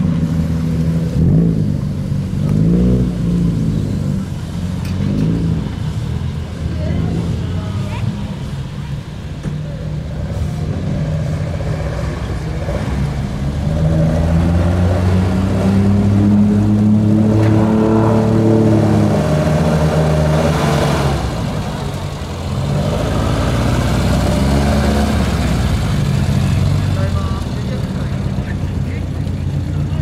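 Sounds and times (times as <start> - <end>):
car engines passing: 0.0 - 30.0.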